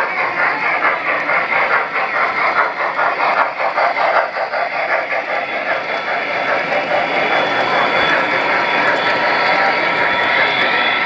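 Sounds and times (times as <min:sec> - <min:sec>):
model train rolling clatter: 0:00.0 - 0:11.0.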